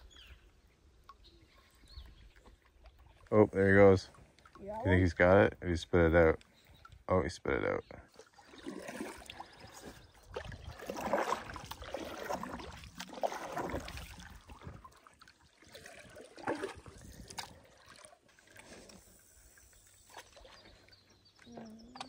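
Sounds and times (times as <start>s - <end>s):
water swishing around canoe: 0.0s - 7.1s, 7.9s - 22.0s.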